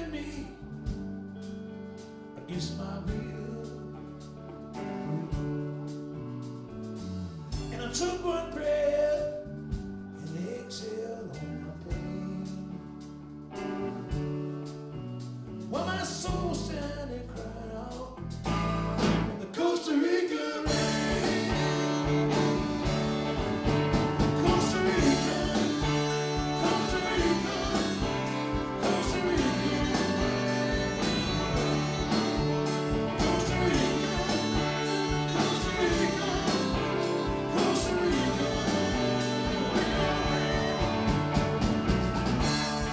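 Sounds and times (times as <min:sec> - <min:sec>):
live rock band instrumental: 0:00.0 - 0:19.4, 0:20.7 - 0:42.9.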